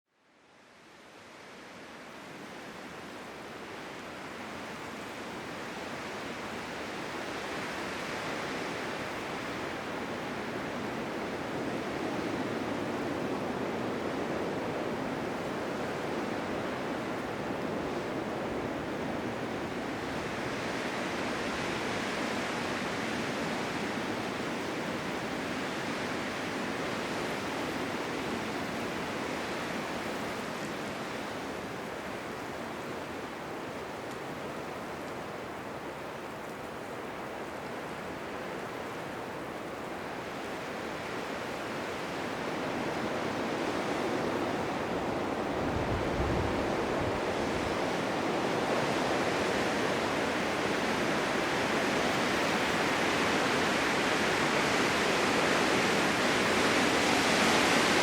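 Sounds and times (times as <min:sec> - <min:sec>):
blizzard wind rushing: 0:03.2 - 0:58.0.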